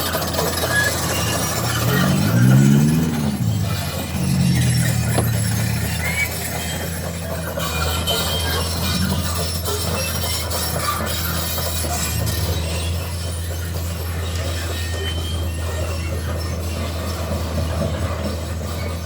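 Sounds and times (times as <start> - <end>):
crawler tracks clanking and squealing: 0.0 - 19.0
diesel engine droning: 0.0 - 19.0.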